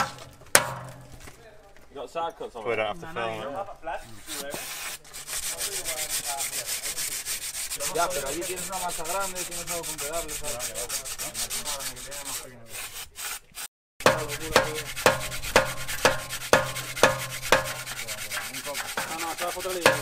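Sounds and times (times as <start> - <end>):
sandpaper rubbing on metal: 4.0 - 20.0.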